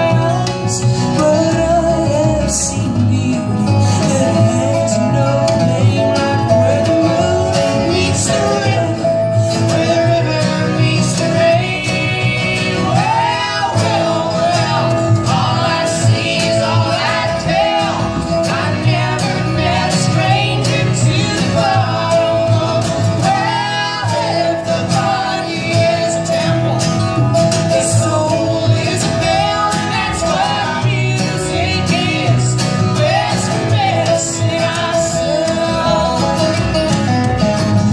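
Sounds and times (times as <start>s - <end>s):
acoustic folk string band: 0.0s - 37.9s
guitar rhythm: 0.0s - 37.9s.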